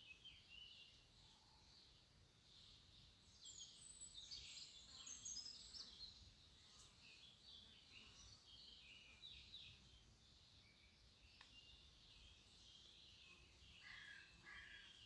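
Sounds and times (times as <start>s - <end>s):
faint background noise: 0.0s - 15.0s
small birds twittering: 0.0s - 15.0s.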